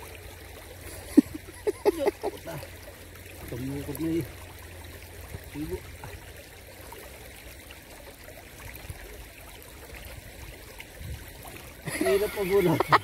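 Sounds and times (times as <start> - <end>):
flowing water: 0.0 - 13.0.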